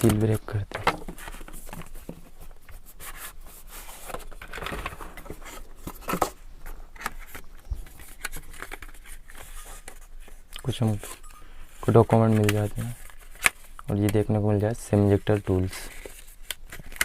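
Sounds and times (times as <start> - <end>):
packaging rustling: 0.0 - 17.0.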